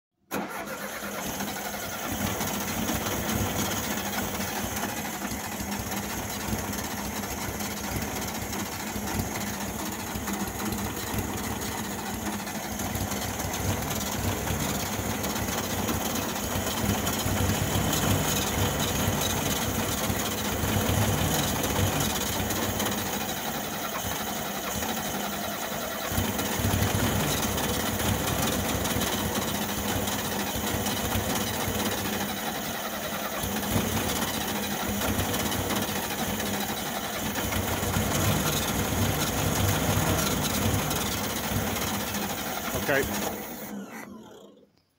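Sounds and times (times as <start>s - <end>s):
starter motor cranking engine: 0.2s - 44.9s.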